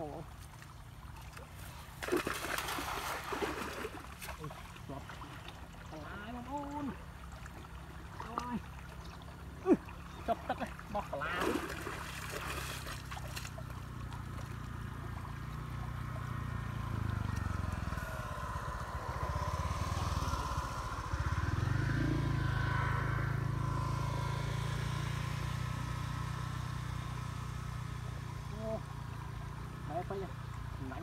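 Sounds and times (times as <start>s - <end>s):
small engine running: 1.6s - 31.0s.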